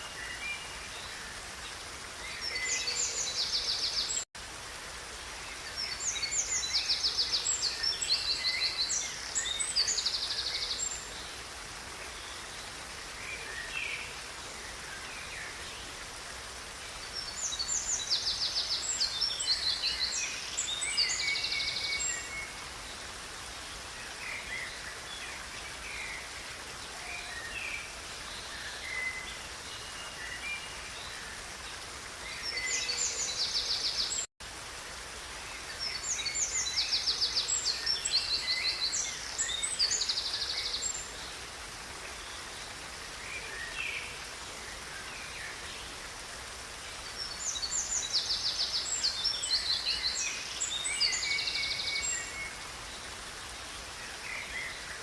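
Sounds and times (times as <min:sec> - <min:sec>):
songbirds trilling and chirping: 0:00.0 - 0:34.3, 0:35.5 - 0:55.0.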